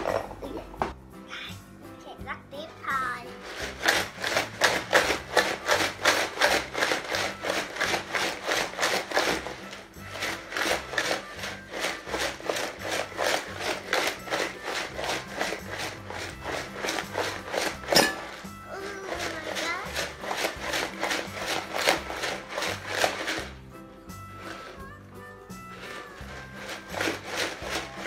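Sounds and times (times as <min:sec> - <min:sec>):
ice and salt rattling in plastic jar: 0:02.9 - 0:28.0.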